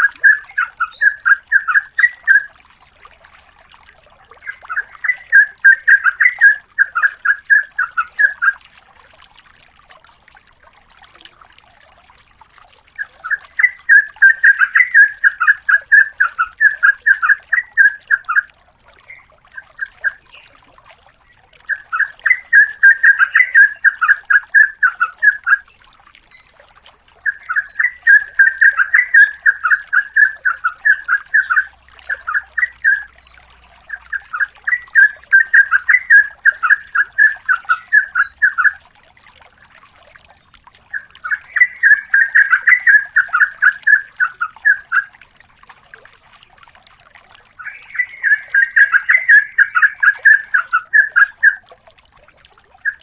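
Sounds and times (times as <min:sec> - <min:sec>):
bird singing bubbling notes: 0:00.0 - 0:53.0.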